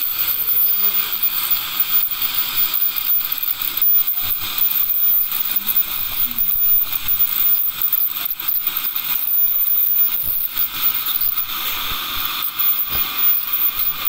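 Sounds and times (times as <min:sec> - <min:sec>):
dental scaler high whine: 0:00.0 - 0:14.0
rapid faint chatter of scaler tip: 0:00.0 - 0:14.0.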